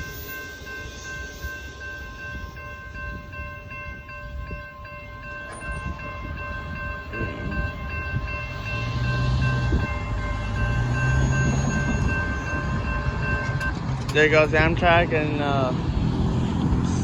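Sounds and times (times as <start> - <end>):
crossing bells ringing: 0.0 - 16.0
diesel train rumble: 0.0 - 17.0.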